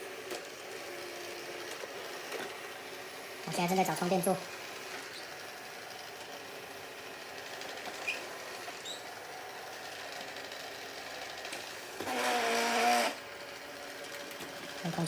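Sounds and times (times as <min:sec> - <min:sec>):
robot vacuum running: 0:00.0 - 0:15.0.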